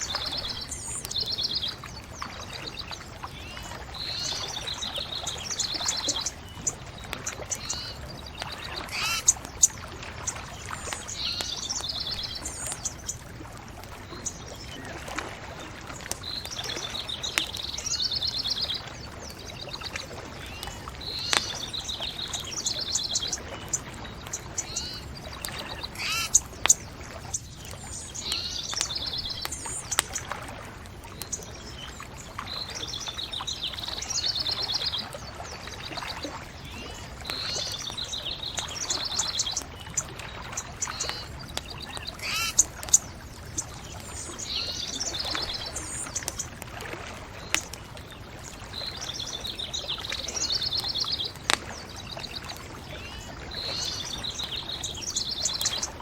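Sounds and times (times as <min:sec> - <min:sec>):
bonfire crackling: 0:00.0 - 0:35.8, 0:36.4 - 0:56.0
songbirds singing trills: 0:00.0 - 0:56.0.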